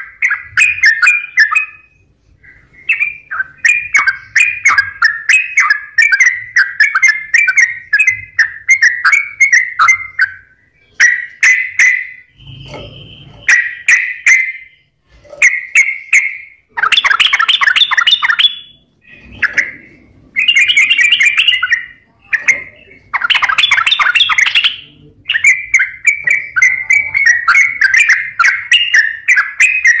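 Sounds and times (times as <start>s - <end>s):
bulbul singing: 0.0s - 30.0s.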